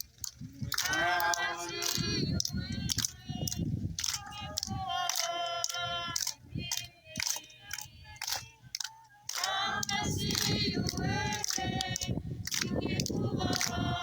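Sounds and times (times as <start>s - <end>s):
people singing together: 0.5s - 14.0s.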